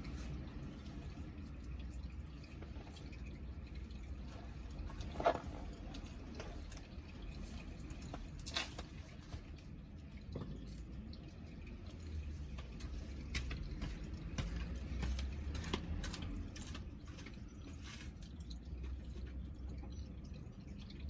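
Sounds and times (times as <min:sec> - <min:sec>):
liquid dripping: 0:00.0 - 0:21.0
low steady hum: 0:00.0 - 0:21.0.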